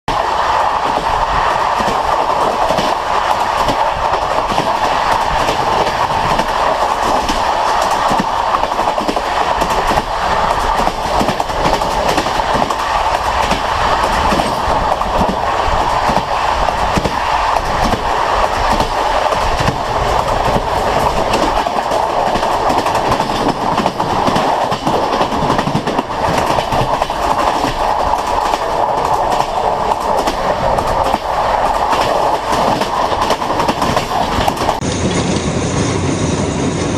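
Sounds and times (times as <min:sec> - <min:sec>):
wheels clacking over rail joints: 0:00.1 - 0:34.8
train wheels rumbling: 0:00.1 - 0:36.9.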